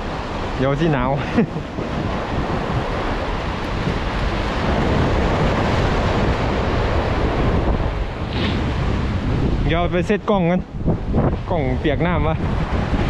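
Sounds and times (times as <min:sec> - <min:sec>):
waves washing over breakwater: 0:00.0 - 0:13.0
wind rumbling on microphone: 0:00.0 - 0:13.0.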